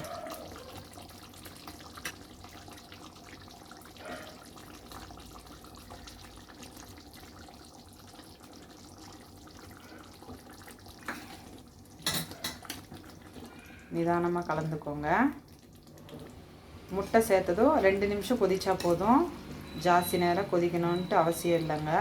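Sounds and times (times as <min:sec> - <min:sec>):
curry bubbling in a pan: 0:00.0 - 0:22.0.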